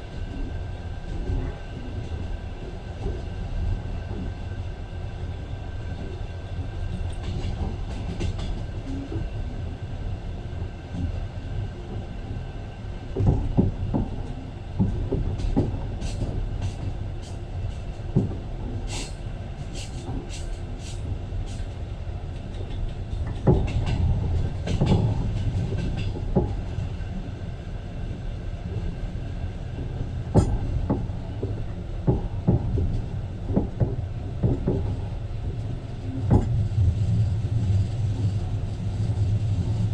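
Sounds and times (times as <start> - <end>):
railway carriage rumble: 0.0 - 39.9.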